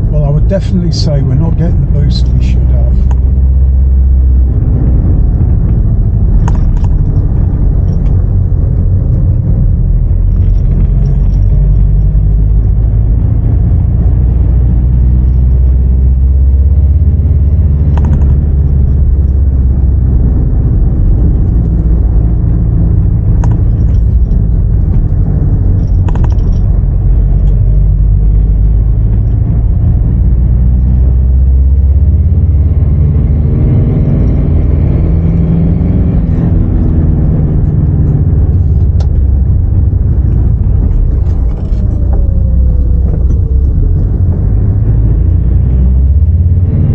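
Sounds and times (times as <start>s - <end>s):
diesel truck engine rumbling: 0.0s - 46.9s.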